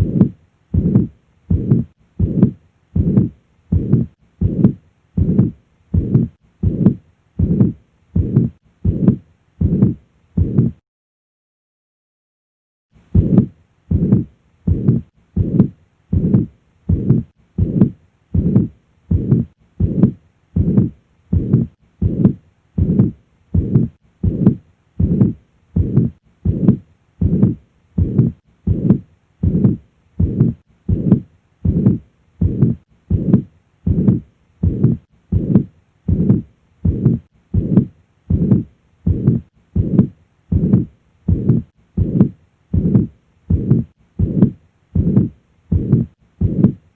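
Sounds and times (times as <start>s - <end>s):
heartbeat with murmur: 0.0s - 10.8s, 13.0s - 46.9s.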